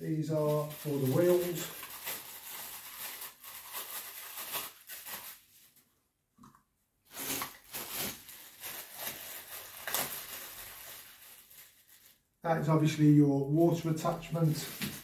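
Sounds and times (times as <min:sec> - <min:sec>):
plastic packaging crinkling: 0:00.3 - 0:05.8, 0:07.1 - 0:12.3, 0:13.7 - 0:15.0.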